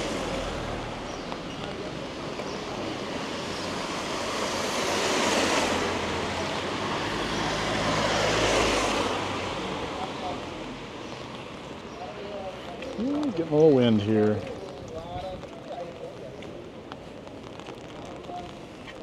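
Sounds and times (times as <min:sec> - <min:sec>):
rushing street noise: 0:00.0 - 0:19.0.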